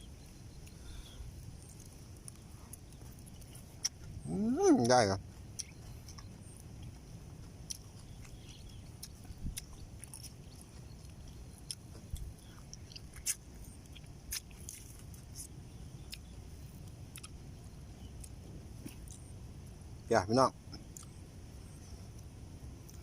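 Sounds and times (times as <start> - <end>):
low background rumble: 0.0 - 23.0
person chewing food: 0.2 - 19.3, 20.7 - 21.2, 22.1 - 23.0.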